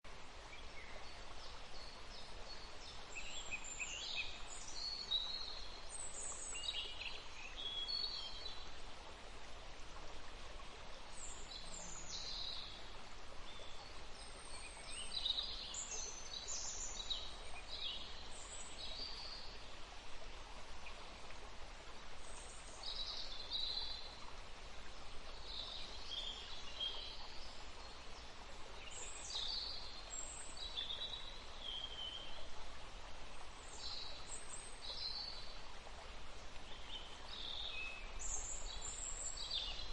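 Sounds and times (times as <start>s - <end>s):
steady background hiss: 0.1s - 39.9s.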